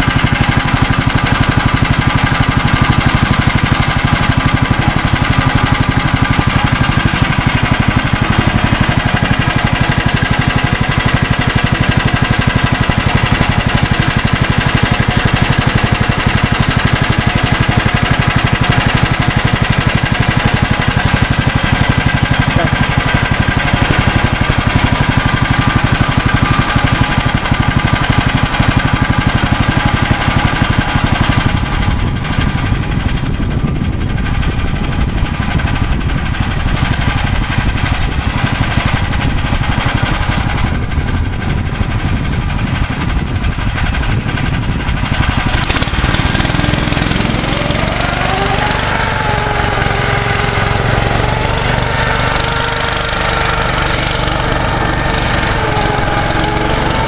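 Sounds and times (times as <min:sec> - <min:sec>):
snowmobile engine idling: 0:00.0 - 0:57.0.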